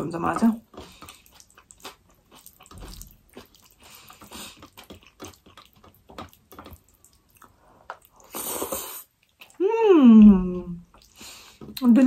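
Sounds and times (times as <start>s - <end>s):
person chewing: 0.3s - 11.8s.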